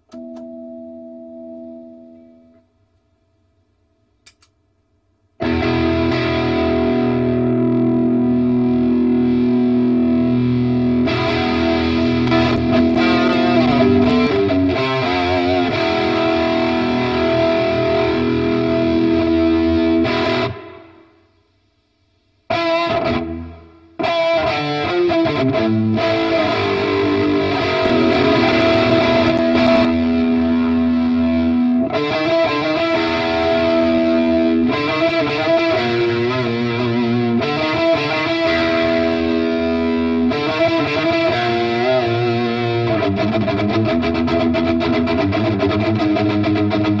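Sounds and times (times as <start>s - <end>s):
electric guitar chords and notes: 5.4s - 21.2s, 22.5s - 47.0s.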